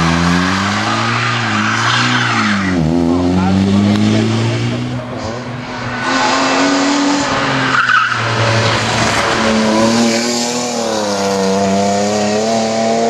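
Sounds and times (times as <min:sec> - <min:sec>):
rally car engine revving: 0:00.0 - 0:13.0
tyres skidding: 0:00.0 - 0:13.0.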